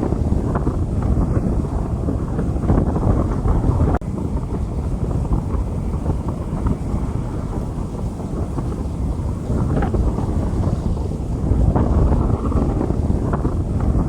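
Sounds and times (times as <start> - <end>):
rain on a street: 0.0 - 14.0.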